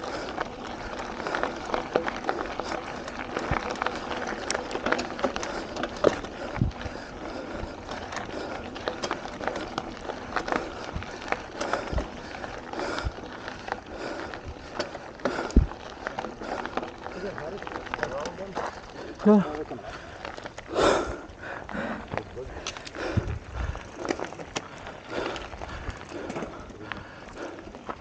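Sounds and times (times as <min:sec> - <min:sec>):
bike rattling and clicking: 0:00.0 - 0:28.0
tyres crunching on gravel: 0:00.0 - 0:28.0.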